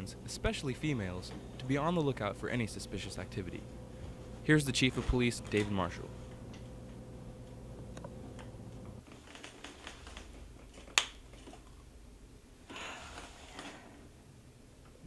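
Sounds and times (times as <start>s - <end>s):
television hum: 0.0s - 12.6s.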